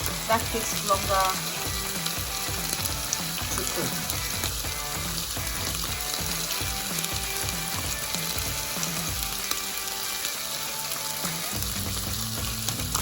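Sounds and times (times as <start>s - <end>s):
vegetables frying in oil: 0.0s - 13.0s.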